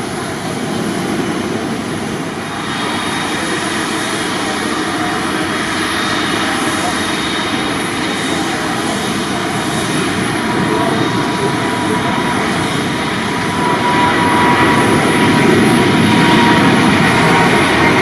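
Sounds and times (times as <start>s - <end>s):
jet engines running loud: 0.0s - 18.0s.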